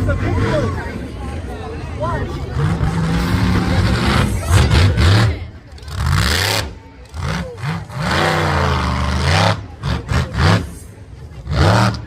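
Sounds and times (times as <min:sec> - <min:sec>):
monster truck engine revving: 0:02.2 - 0:12.0.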